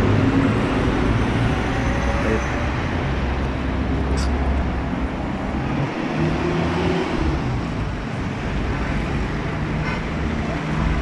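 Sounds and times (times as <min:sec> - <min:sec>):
passing cars rumble: 0:00.0 - 0:11.0.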